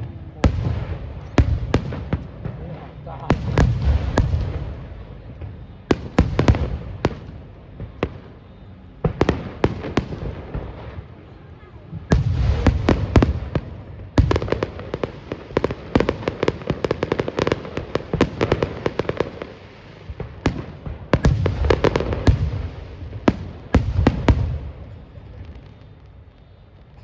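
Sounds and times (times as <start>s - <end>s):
deep firework booms: 0.0s - 8.4s, 11.9s - 26.0s
fireworks bangs and crackles: 0.0s - 27.0s.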